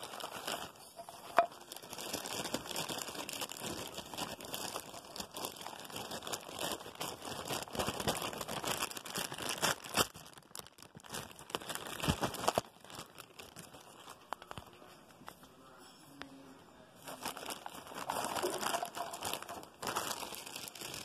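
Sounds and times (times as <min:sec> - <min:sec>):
plastic wrapping crinkling: 0:00.0 - 0:15.4, 0:17.0 - 0:21.0.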